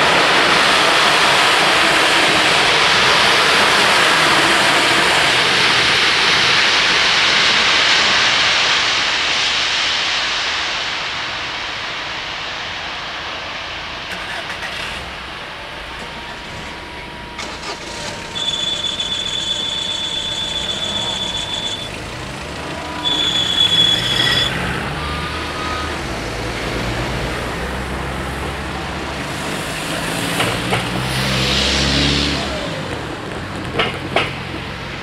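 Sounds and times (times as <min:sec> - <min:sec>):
cars passing: 0:00.0 - 0:08.8, 0:14.0 - 0:35.0
high-pitched squeal: 0:00.0 - 0:34.6.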